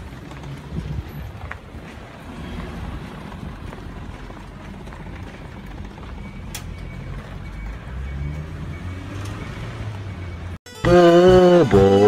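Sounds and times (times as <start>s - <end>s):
low rumble of road traffic: 0.0s - 10.6s.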